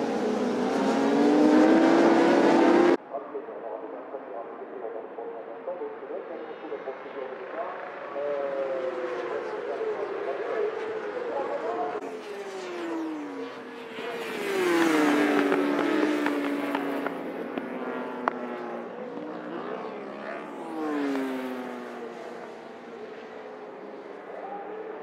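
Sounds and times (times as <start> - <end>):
racing motorcycles passing: 0.0 - 3.0, 7.8 - 25.0.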